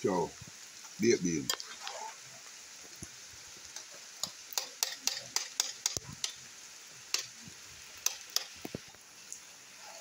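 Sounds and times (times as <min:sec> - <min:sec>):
food sizzling in pan: 0:00.0 - 0:10.0.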